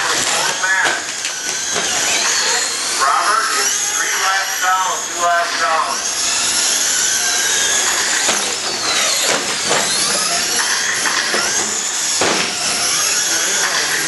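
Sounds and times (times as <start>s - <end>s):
toy car motors whining: 0.0s - 14.0s.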